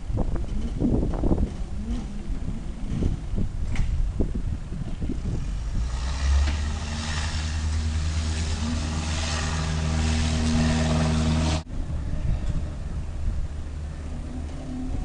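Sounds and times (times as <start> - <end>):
airplane engines running: 0.0 - 15.0.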